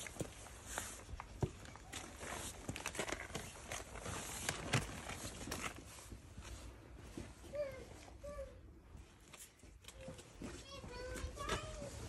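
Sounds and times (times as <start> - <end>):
footsteps on paving stones: 0.0 - 12.0.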